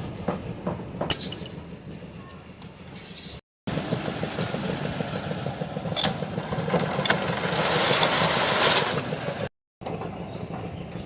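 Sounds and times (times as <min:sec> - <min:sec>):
construction machinery engine rumbling: 0:00.0 - 0:11.0.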